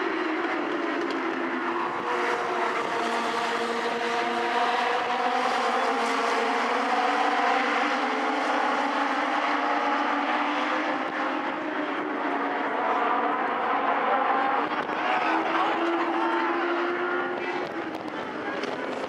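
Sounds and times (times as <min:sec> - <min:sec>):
race car engines at high revs: 0:00.0 - 0:19.0.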